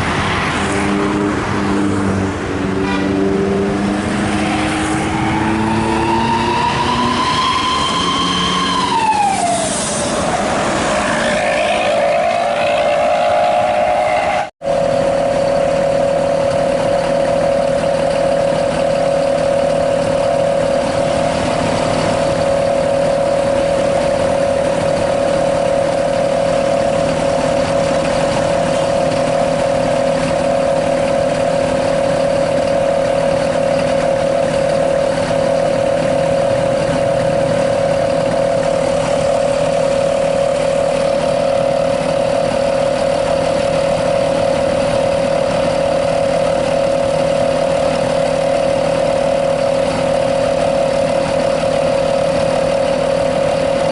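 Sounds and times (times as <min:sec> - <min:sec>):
bus engine running: 0:00.0 - 0:53.9
howling exhaust: 0:00.0 - 0:53.9.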